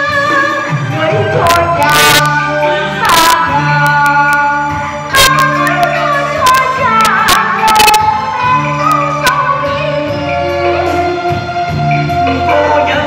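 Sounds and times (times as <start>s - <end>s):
instrumental accompaniment: 0.0s - 13.0s
woman singing: 0.0s - 13.0s.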